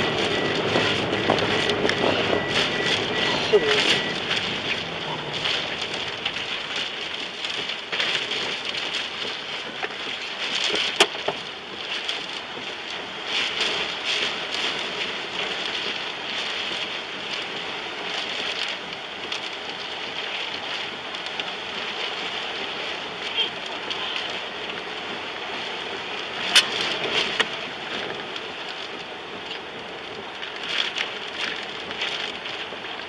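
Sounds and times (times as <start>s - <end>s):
heavy rain and wind on car: 0.0s - 33.0s.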